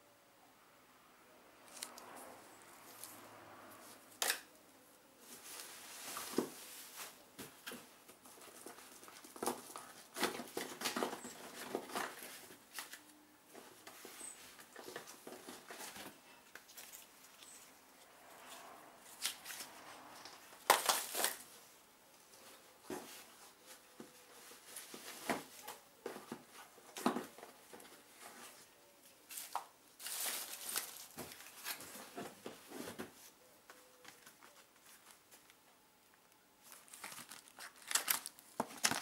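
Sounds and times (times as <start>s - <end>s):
cardboard tubes rustling: 5.2s - 35.6s, 36.6s - 39.0s.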